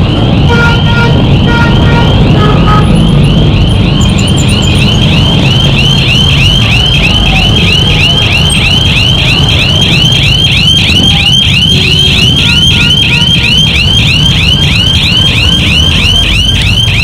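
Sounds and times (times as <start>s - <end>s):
street traffic rumble: 0.0s - 17.0s
electronic warning beeper chirping: 1.0s - 17.0s.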